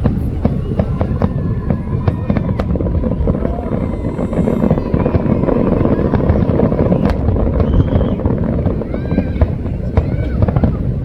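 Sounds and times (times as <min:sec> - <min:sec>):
fireworks crackling: 0:00.0 - 0:11.0
fireworks exploding: 0:00.0 - 0:11.0.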